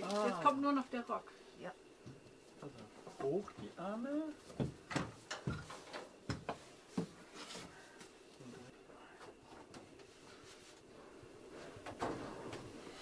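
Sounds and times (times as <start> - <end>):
faint rustling and shuffling: 0.0 - 13.0.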